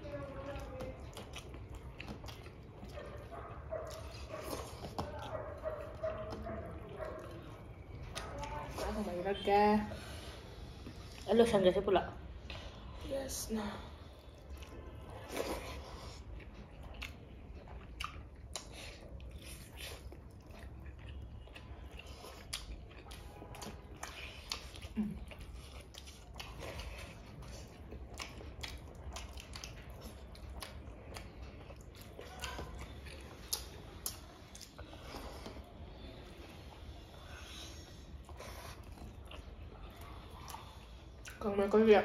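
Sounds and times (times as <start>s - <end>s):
person chewing food: 0.0s - 11.4s, 13.8s - 41.8s.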